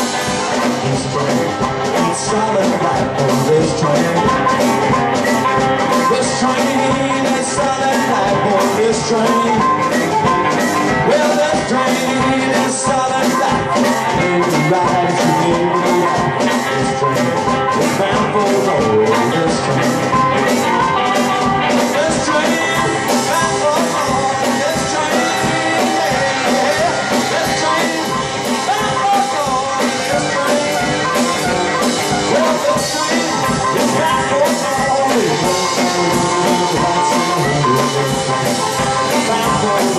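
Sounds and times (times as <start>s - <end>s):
blues band playing: 0.0s - 39.9s
harmonica bending notes: 0.0s - 39.9s
steady drum beat: 0.0s - 39.9s.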